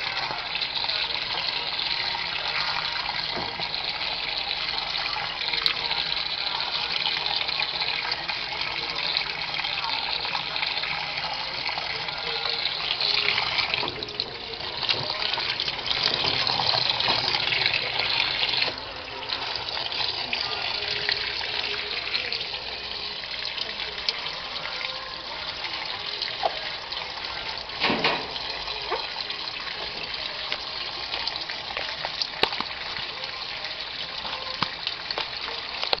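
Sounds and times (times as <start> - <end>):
water gushing into washing machine: 0.0 - 36.0.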